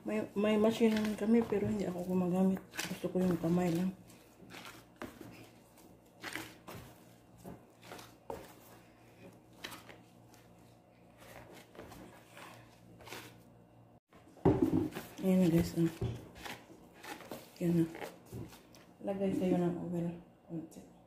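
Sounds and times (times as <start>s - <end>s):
dough squishing: 0.0s - 13.6s, 14.8s - 19.6s.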